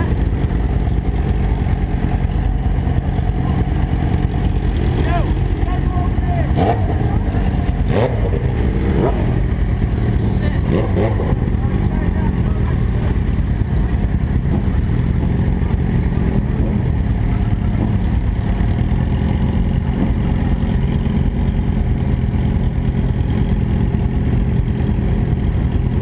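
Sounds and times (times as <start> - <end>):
vehicle engines idling: 0.0 - 26.0.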